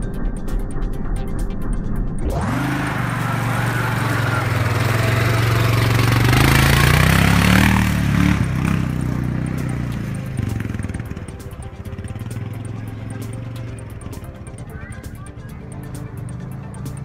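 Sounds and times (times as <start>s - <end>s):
quad bike engine accelerating: 2.2s - 17.0s.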